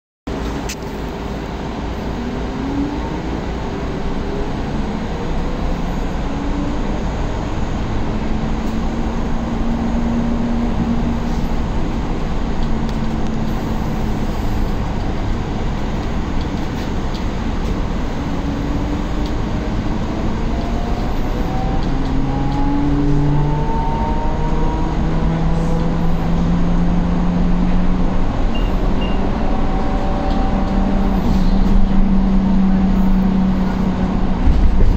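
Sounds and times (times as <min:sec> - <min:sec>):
road and tyre rumble: 0:00.3 - 0:34.9.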